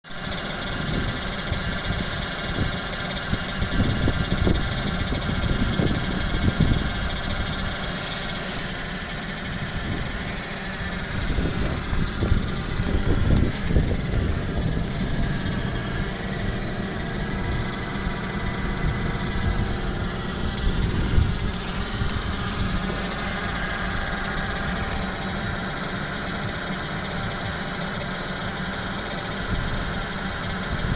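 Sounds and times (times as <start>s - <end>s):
car engine idling: 0.1s - 30.9s
transmission humming: 3.2s - 30.9s.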